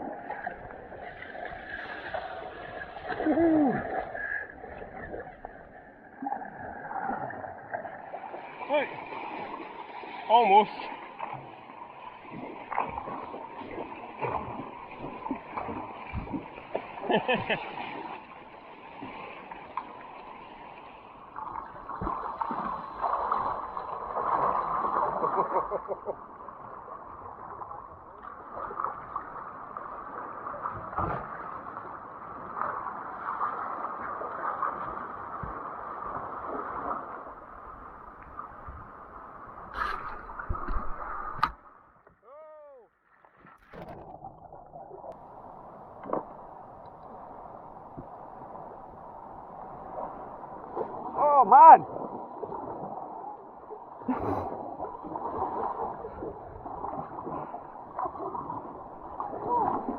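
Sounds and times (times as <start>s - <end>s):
water splashing around kayak: 0.0s - 59.9s.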